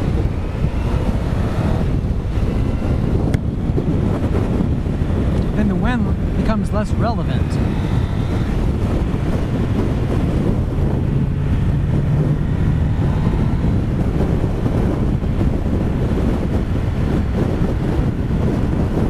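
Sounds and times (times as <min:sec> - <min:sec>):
wind buffeting helmet microphone: 0:00.0 - 0:19.0.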